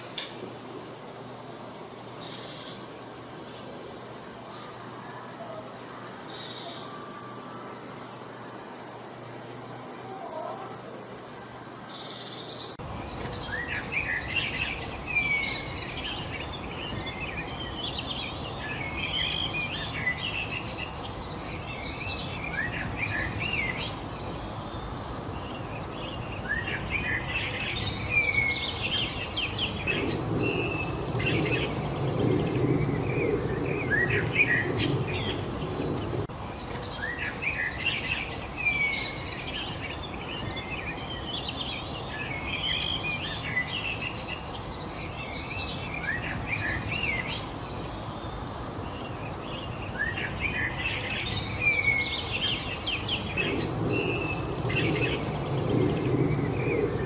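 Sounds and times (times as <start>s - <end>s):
background hiss: 0.0s - 57.0s
birds chirping and singing: 1.2s - 9.2s, 9.9s - 57.0s.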